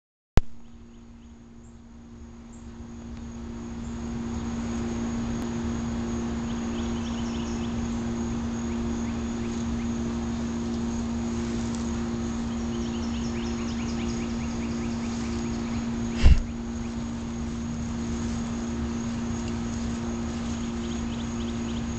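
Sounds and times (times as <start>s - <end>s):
steady low hum: 0.4s - 21.9s
faint high insect buzz: 0.6s - 21.9s.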